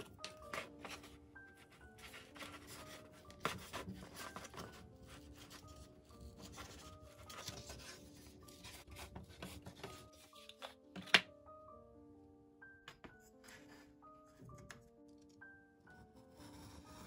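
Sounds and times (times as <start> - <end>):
soft instrumental music: 0.0 - 17.0.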